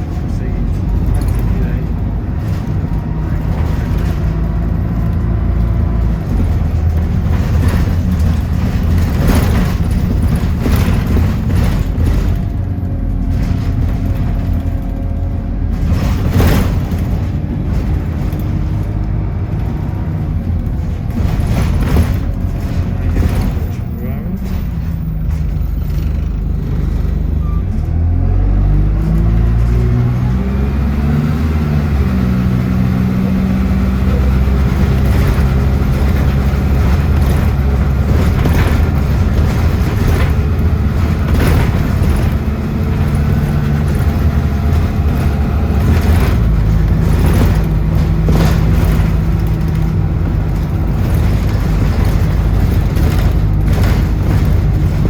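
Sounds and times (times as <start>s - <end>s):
short knocks and rattles: 0.0s - 28.0s, 28.8s - 55.0s
bus engine pulling away: 0.0s - 55.0s.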